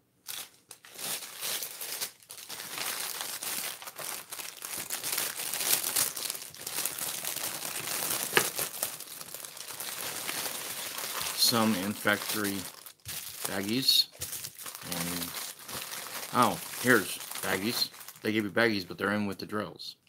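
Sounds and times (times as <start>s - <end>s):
plastic bags crinkling: 0.2s - 18.7s.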